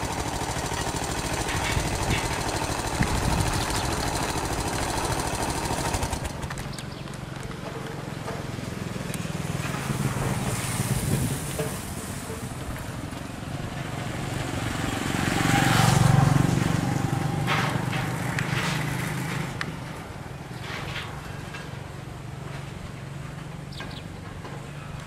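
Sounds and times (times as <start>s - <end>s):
motorcycle passing: 0.0s - 20.5s.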